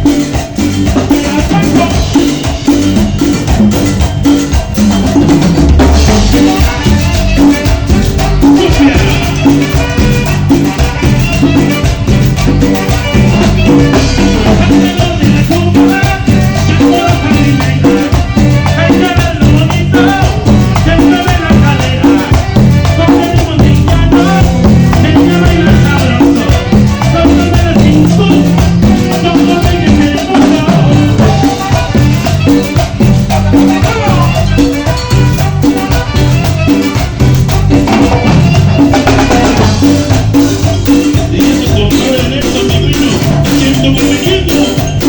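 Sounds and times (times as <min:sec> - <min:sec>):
latin dance band playing: 0:00.0 - 0:45.0.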